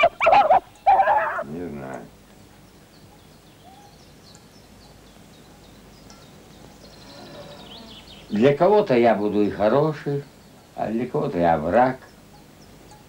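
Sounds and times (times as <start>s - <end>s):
low steady background noise: 0.0s - 13.0s
small birds chirping: 0.0s - 13.0s.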